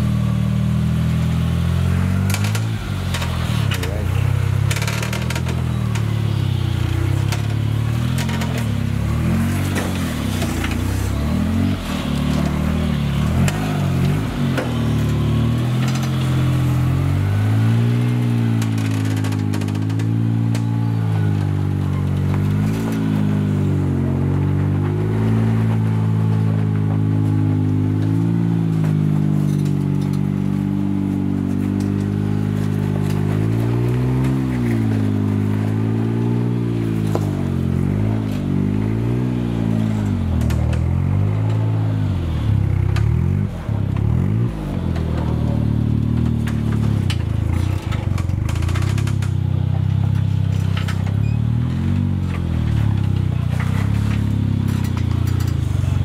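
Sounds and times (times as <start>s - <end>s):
off-road engine pulling at low revs: 0.0s - 56.0s.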